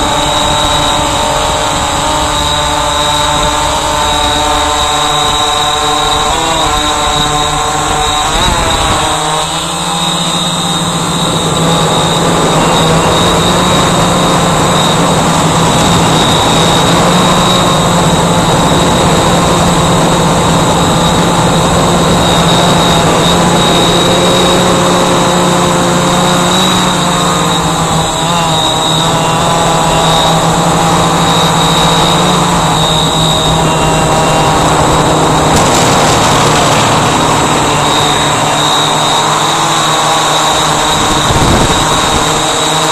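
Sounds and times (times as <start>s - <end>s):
drone motors and propellers whining: 0.0s - 42.9s.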